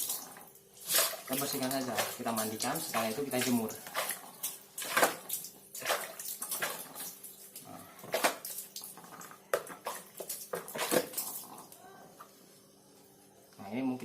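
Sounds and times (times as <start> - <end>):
water splashing: 0.0 - 11.6.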